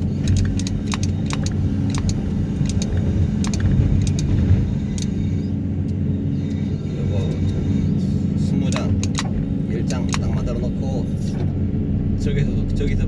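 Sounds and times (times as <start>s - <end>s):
sharp clicks and rattles: 0.0s - 11.5s
excavator diesel engine running: 0.0s - 13.0s.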